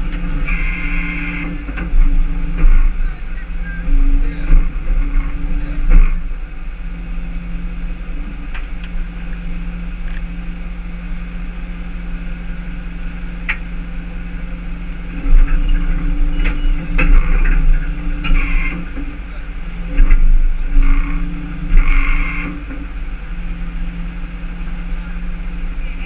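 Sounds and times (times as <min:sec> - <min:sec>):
loud rumble: 0:00.0 - 0:26.0
truck engine idling: 0:00.0 - 0:26.0.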